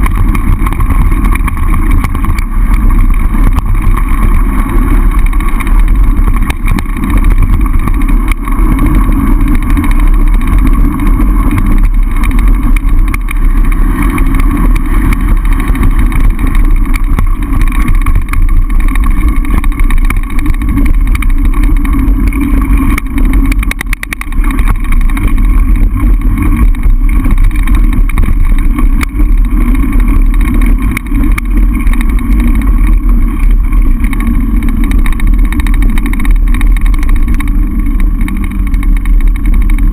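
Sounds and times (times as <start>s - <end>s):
bicycle tyre noise: 0.0s - 39.9s
wind buffeting microphone: 0.0s - 39.9s.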